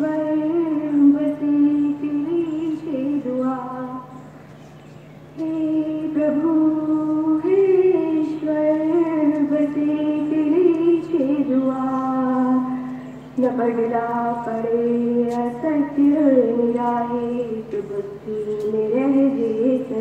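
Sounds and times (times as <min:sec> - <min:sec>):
girl singing a devotional song: 0:00.0 - 0:04.2, 0:05.3 - 0:20.0.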